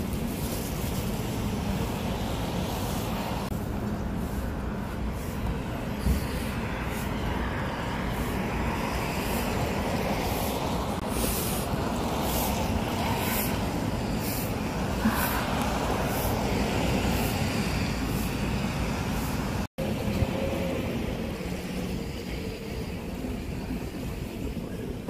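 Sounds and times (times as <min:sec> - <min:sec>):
cars passing on wet road: 0:00.0 - 0:23.8.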